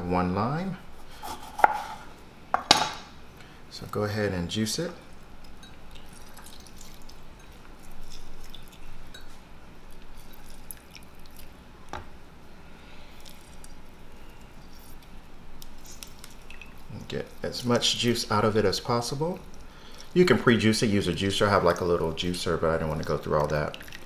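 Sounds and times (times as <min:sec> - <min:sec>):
juice dripping: 0:03.4 - 0:12.1, 0:12.8 - 0:24.0.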